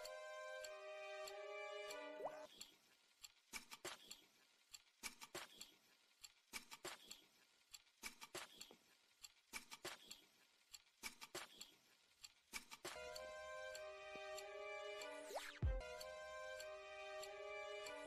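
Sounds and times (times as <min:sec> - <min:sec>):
clicking percussion: 0:00.0 - 0:07.2, 0:08.0 - 0:18.0.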